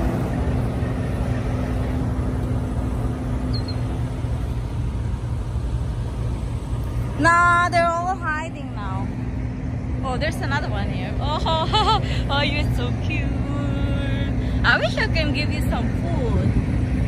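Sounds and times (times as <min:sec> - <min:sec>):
faint steady hum: 0:00.0 - 0:17.0
vehicle engines rumbling: 0:00.0 - 0:17.0.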